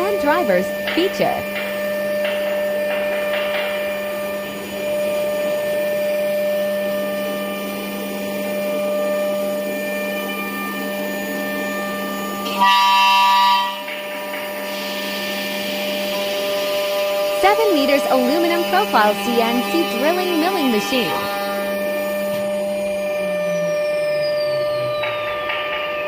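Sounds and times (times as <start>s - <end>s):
loud high tone: 0.0s - 7.6s, 8.2s - 26.0s
machine whine: 0.0s - 26.0s.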